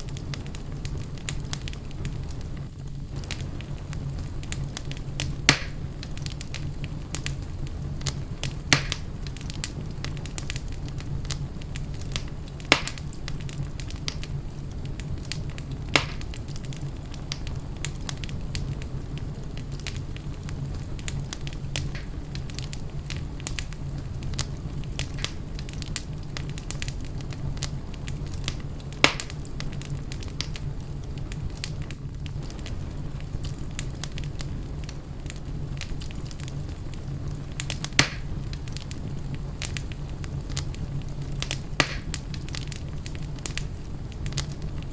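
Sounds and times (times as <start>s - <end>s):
fireplace fire crackling: 0.0s - 44.9s
loud sharp pops of fire: 0.0s - 44.9s.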